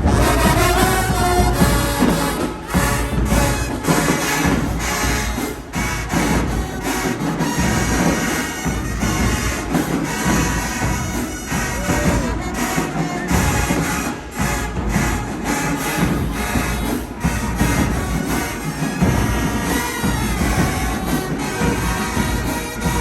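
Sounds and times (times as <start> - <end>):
drum hits: 0.0 - 23.0
marching band horns: 0.0 - 23.0.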